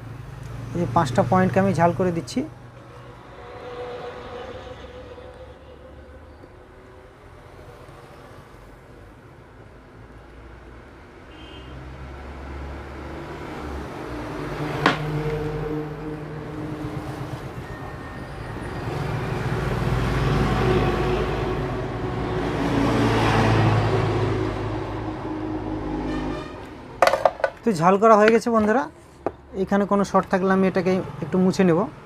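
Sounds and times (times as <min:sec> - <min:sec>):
passing traffic engine hum: 0:00.0 - 0:32.0.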